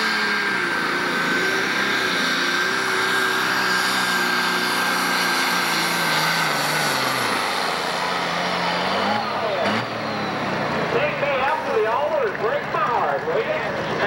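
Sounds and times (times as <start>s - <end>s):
diesel tractor engine running flat out: 0.0s - 14.0s
high turbo whine: 0.0s - 14.0s.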